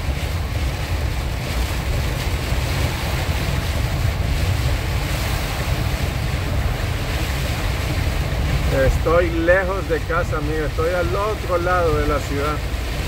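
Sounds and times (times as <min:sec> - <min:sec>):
heavy rain on vehicle: 0:00.0 - 0:13.0
road and wind rumble: 0:00.0 - 0:13.0.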